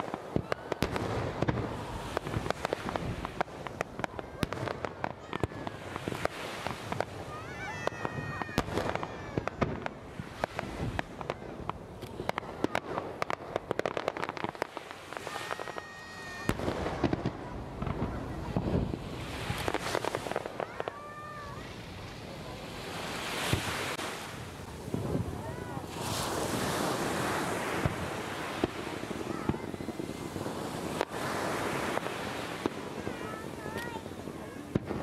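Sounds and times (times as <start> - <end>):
fireworks crackling and banging: 0.0 - 35.0.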